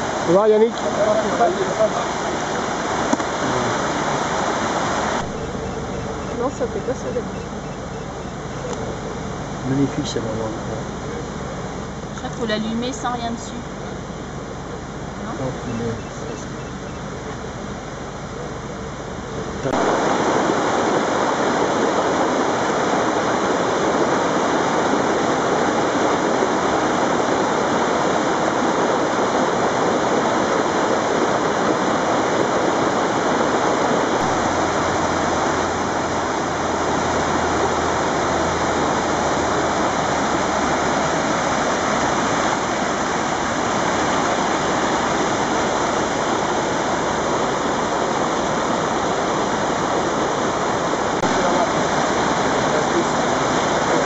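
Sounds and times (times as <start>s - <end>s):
water rushing over rocks: 0.0s - 17.7s, 19.1s - 54.0s.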